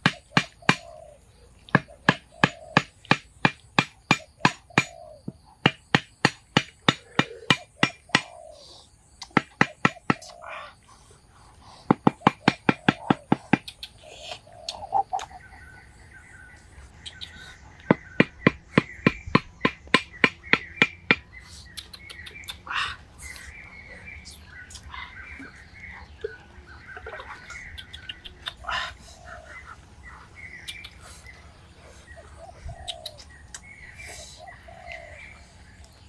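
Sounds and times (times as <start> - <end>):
birds calling: 0.0 - 36.0.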